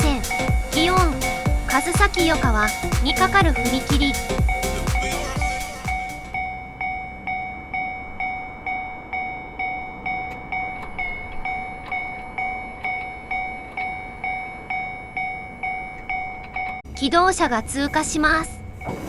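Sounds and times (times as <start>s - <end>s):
level-crossing alarm ringing: 0.0s - 19.0s.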